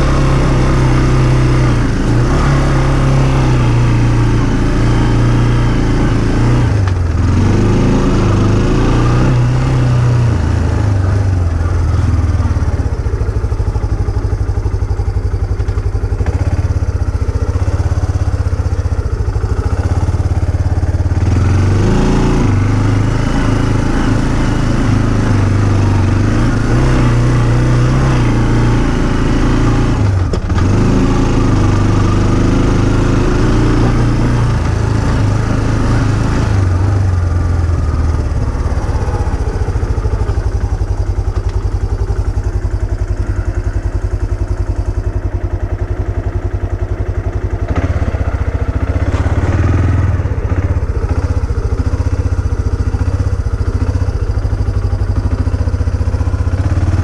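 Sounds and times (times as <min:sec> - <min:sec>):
off-road vehicle engine: 0:00.0 - 0:57.0.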